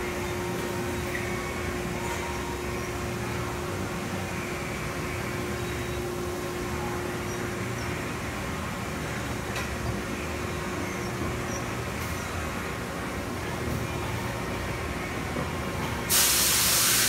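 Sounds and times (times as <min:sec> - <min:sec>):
mechanical whine: 0:00.0 - 0:16.1
furnace car mechanical hum: 0:00.0 - 0:17.0.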